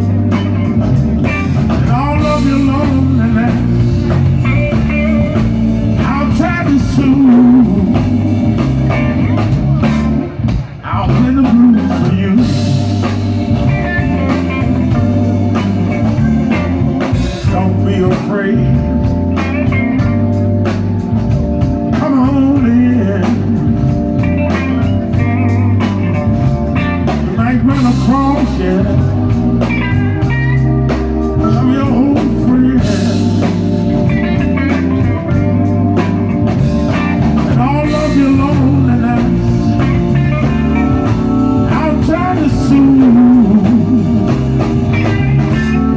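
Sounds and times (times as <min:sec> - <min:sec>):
blues band playing: 0:00.0 - 0:45.9
electric guitar notes bending: 0:00.0 - 0:45.9.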